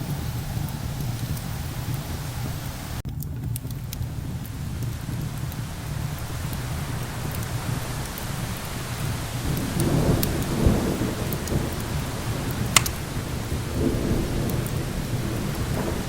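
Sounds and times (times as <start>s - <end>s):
fireplace fire crackling pops: 0.0s - 16.0s
rolling thunder: 0.0s - 16.0s
steady hiss: 0.0s - 16.0s.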